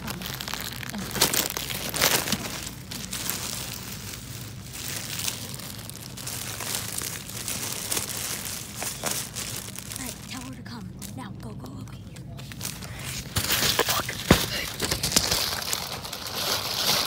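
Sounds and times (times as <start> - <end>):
plastic packaging rustling and crinkling: 0.0 - 17.0
steady low hum: 0.0 - 17.0.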